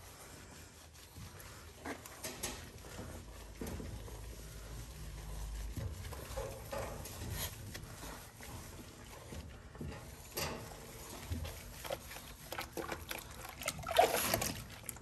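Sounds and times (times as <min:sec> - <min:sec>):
wet rubbing and sloshing: 0:00.0 - 0:15.0.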